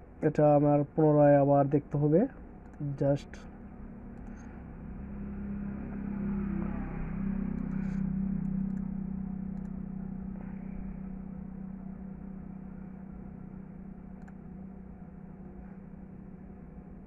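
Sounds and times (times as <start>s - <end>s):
rumbling background noise: 0.0s - 17.0s
steady low hum: 0.0s - 17.0s.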